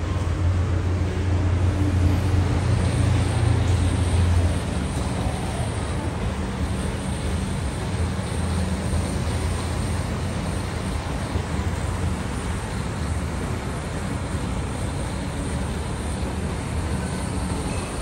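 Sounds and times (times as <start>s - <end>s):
blowtorch roaring: 0.2s - 18.0s.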